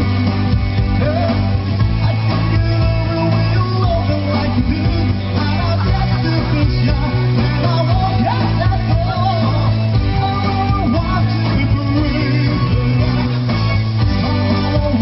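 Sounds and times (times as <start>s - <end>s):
keyboard accompaniment: 0.0s - 15.0s
steady low bass: 0.0s - 15.0s.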